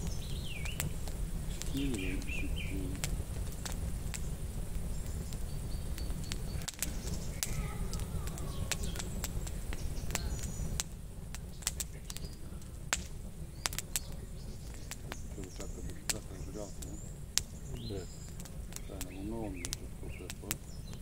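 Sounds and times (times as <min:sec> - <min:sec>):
low rumble: 0:00.0 - 0:20.8
birds chirping: 0:00.0 - 0:21.0
wood fire crackling and popping: 0:00.0 - 0:21.0.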